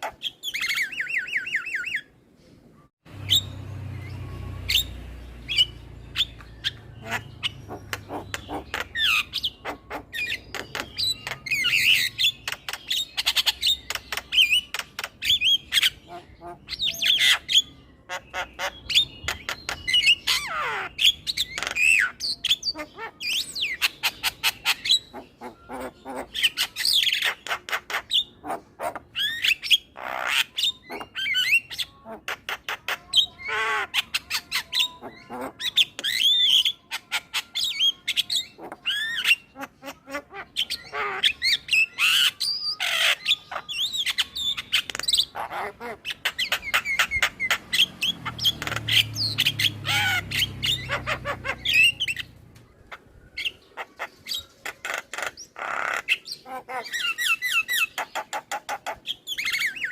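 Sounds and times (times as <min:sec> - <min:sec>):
bird chattering song: 0:00.0 - 0:02.1, 0:03.1 - 0:59.9.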